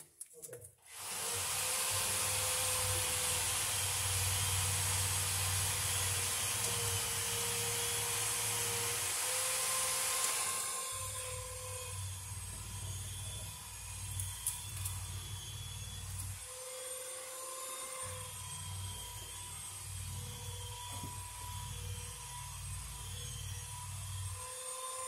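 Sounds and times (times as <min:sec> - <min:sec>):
electric drill boring: 0:00.9 - 0:25.0.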